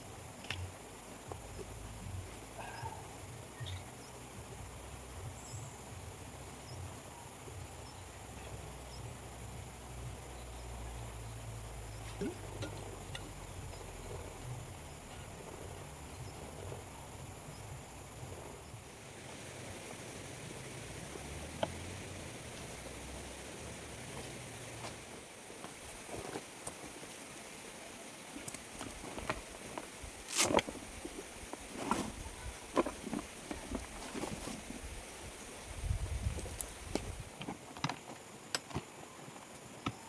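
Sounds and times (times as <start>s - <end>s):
crickets chirring drone: 0.0s - 40.0s.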